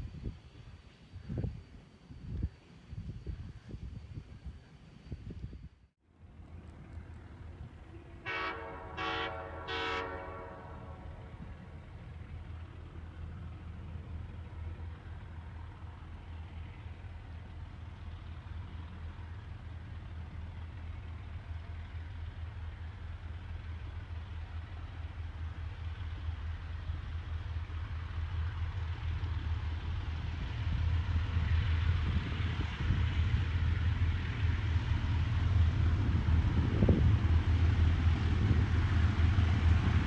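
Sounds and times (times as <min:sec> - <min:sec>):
steam train rumble: 0:00.0 - 0:40.0.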